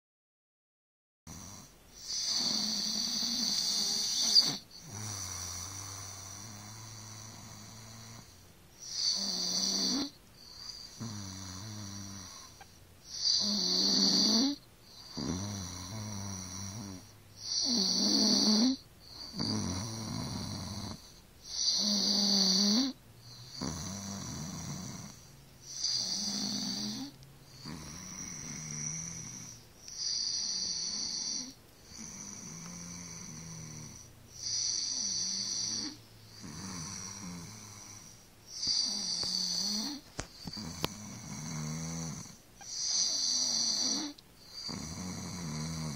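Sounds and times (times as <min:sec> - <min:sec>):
person snoring: 0:01.3 - 0:45.9.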